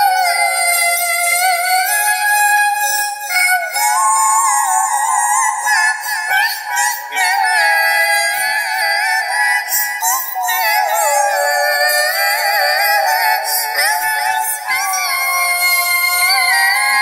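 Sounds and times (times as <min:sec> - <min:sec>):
high-pitched altered singing voice: 0:00.0 - 0:17.0
music: 0:00.0 - 0:17.0.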